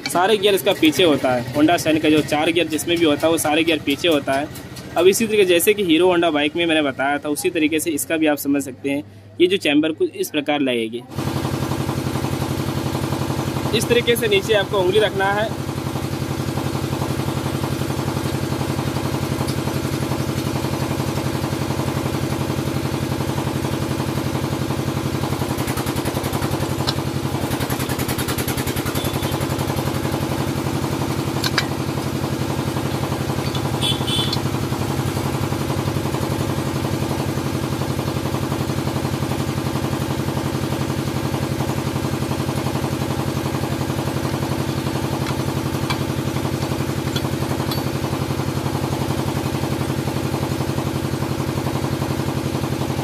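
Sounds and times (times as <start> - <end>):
small engine idling: 0.0 - 9.4, 11.1 - 53.0.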